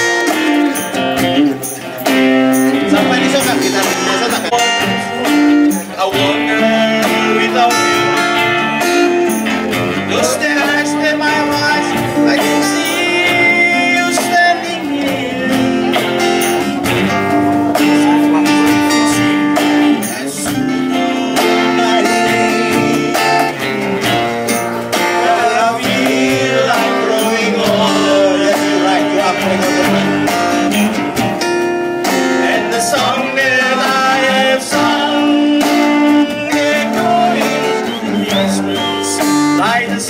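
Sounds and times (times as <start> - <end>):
bass guitar: 0.0 - 40.0
strummed acoustic guitars: 0.0 - 40.0
man singing into microphone: 2.7 - 17.2, 17.8 - 24.1, 24.9 - 30.9, 32.2 - 40.0.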